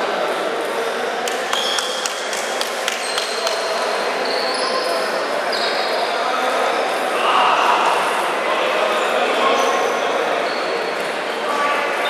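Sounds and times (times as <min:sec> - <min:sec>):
crowd murmur: 0:00.0 - 0:12.0.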